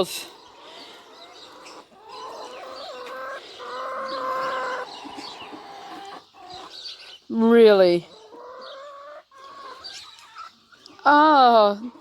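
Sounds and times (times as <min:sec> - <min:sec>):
hens clucking and calling: 0:00.0 - 0:12.0.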